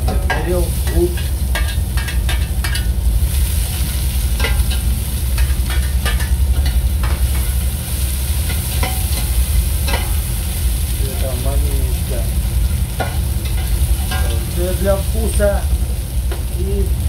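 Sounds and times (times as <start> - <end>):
food sizzling in hot oil: 0.0 - 17.0
low hum: 0.0 - 17.0.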